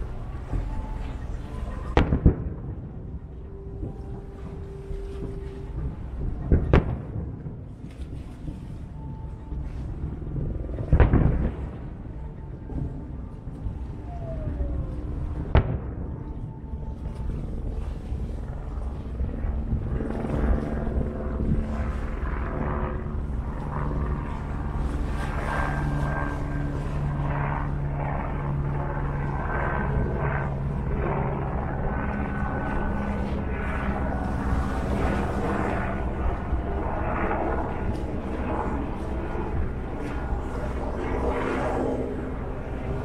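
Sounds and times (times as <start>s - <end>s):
low rumble: 0.0s - 43.0s
steady low hum: 0.0s - 43.0s.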